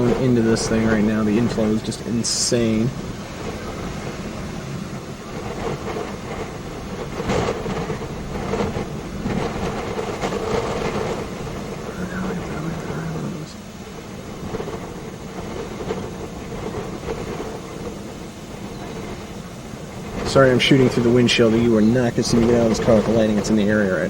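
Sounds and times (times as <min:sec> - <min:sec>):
steady low hum: 0:00.0 - 0:24.0
wind buffeting a car: 0:00.0 - 0:24.0.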